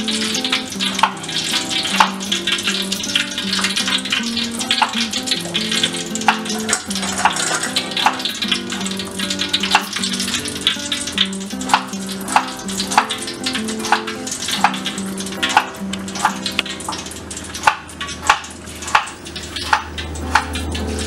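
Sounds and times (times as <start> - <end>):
background music: 0.0 - 17.1
hot oil sizzling in a wok: 0.0 - 21.0
metallic taps: 0.1 - 20.8.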